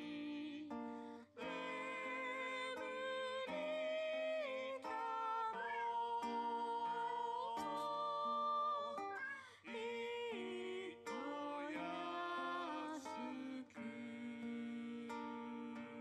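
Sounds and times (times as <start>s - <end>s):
acoustic guitar: 0.0s - 16.0s
person singing long notes: 0.0s - 16.0s.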